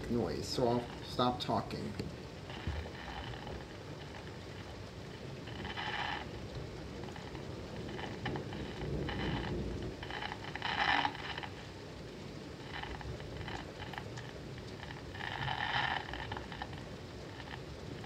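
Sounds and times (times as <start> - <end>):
radio static crackling: 0.0 - 18.0
steady rain hiss: 0.0 - 18.0.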